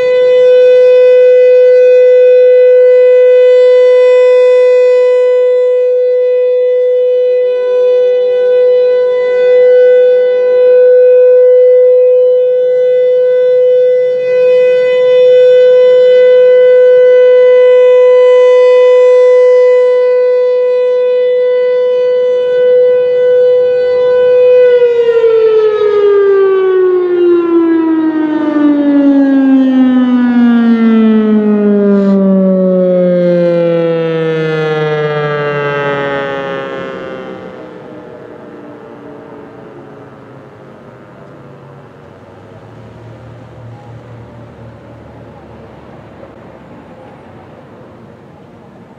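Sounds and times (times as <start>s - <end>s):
warning siren alert tone: 0.0s - 48.6s.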